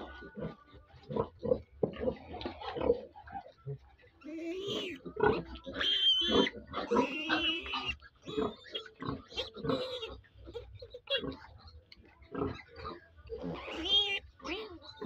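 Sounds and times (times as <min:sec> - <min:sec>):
piglet squealing: 0:01.2 - 0:15.0.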